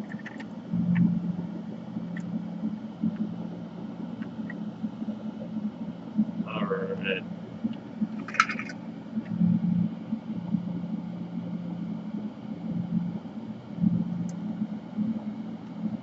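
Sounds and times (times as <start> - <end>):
exhaust fan humming: 0.0 - 16.0.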